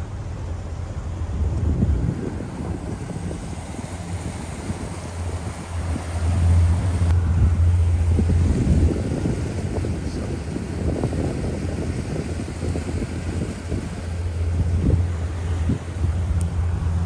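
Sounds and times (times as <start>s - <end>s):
motorboat engine drone: 0.0s - 17.0s
wind buffeting microphone: 0.0s - 17.0s.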